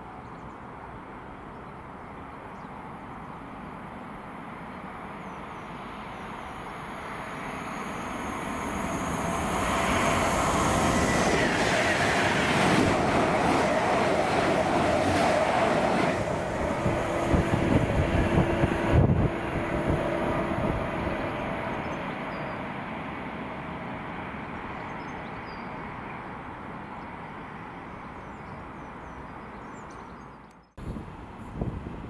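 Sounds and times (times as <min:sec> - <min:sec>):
train passing: 0:00.7 - 0:29.2.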